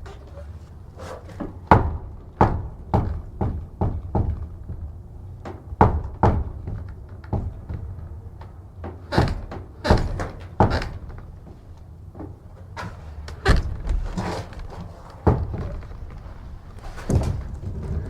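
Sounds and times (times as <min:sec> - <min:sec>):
wooden door knocking and creaking: 0:01.4 - 0:18.0.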